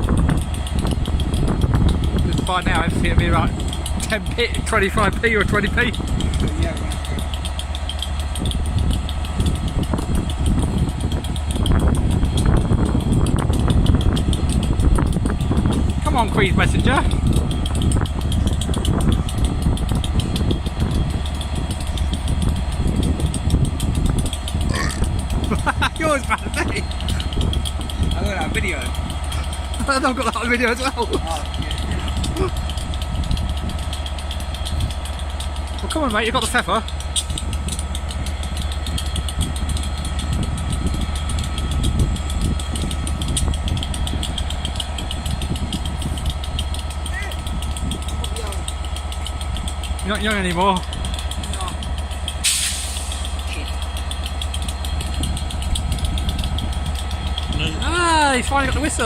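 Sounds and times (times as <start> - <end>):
diesel locomotive idling: 0.0 - 59.0
light ticking: 0.0 - 59.0.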